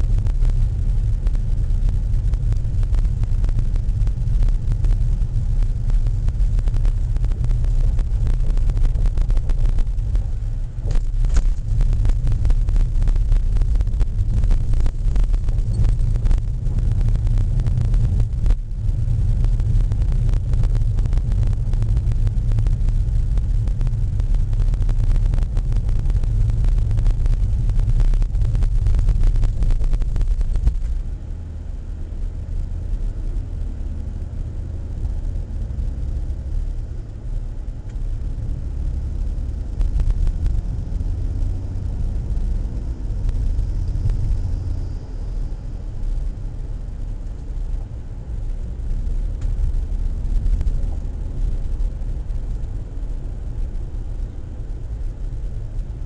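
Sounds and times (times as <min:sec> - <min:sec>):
car road rumble on asphalt: 0:00.0 - 0:56.0
car rumble on unpaved track: 0:00.0 - 0:56.0
gravel crackling under tyres: 0:00.0 - 0:56.0.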